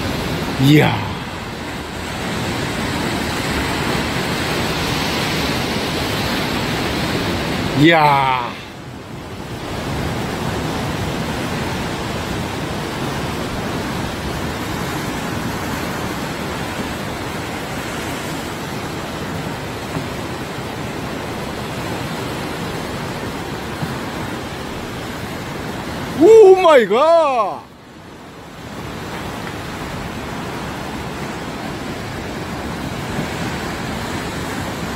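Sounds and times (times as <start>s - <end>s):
sea surf: 0.0s - 34.9s
wind: 0.0s - 34.9s.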